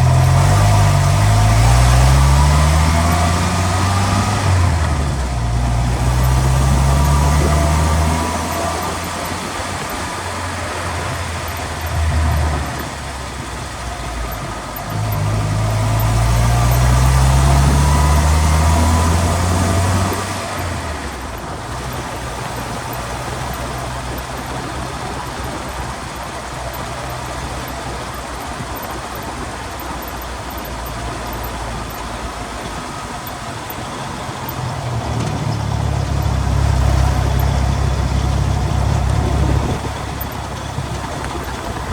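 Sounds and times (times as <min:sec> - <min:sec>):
low drivetrain drone: 0:00.0 - 0:41.9.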